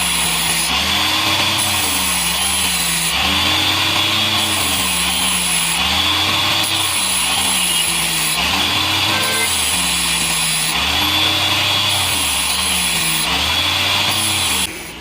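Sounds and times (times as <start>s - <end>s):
power tool running: 0.0s - 15.0s.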